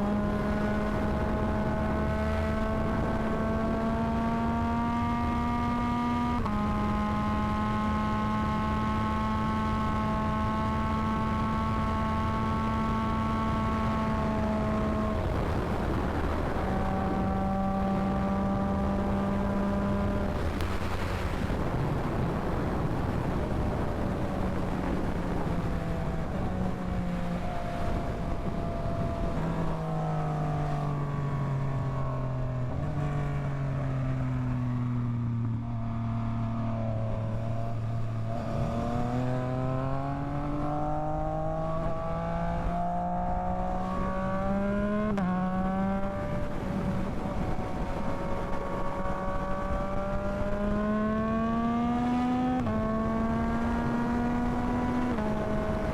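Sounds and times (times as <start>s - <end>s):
motorcycle engine revving: 0.0s - 55.9s
wind noise: 0.0s - 55.9s.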